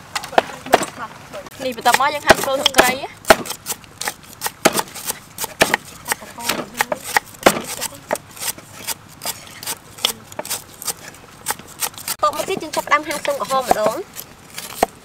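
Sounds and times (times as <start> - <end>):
knives chopping on wooden board: 1.6 - 15.0.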